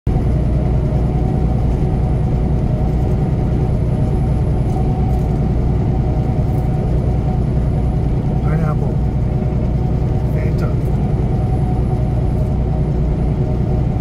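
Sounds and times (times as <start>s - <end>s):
truck diesel engine droning: 0.1s - 14.0s.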